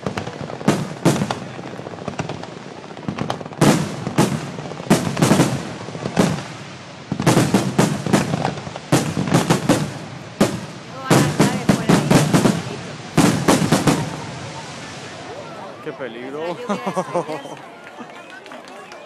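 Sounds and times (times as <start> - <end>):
fireworks bursting in sharp bangs: 0.0 - 15.8.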